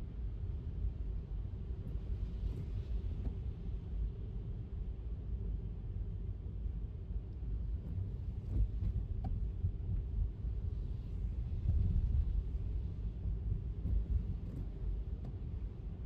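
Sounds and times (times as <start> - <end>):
car road rumble on wet street: 0.2 - 16.0.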